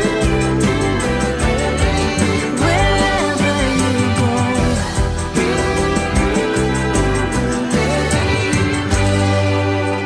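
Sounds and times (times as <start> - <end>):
instrumental pop music: 0.0 - 10.0.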